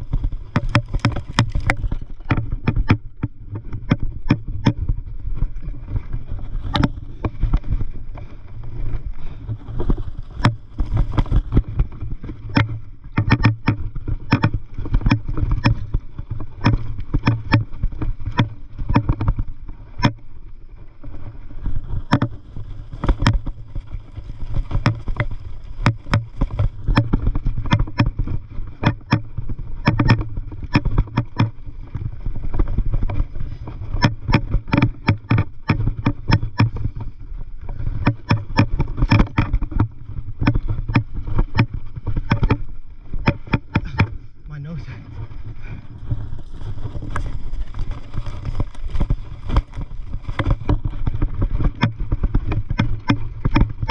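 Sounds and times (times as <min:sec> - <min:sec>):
bike rattles and knocks: 0:00.0 - 0:53.9
bike rolling over dirt trail: 0:00.0 - 0:53.9.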